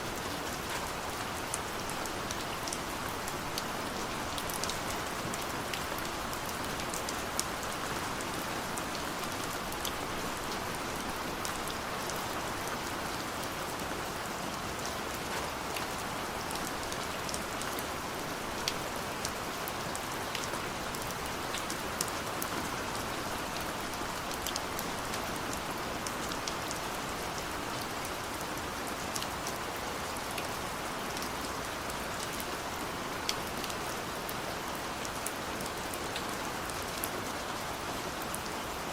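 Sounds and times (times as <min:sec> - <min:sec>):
steady rain falling: 0:00.0 - 0:38.9
raindrops ticking on a surface: 0:00.1 - 0:13.9, 0:14.7 - 0:37.6.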